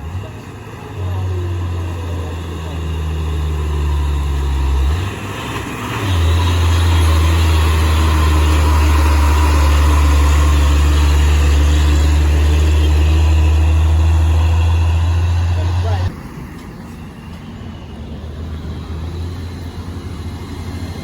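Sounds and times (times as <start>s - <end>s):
truck diesel engine under load: 0.0s - 21.0s.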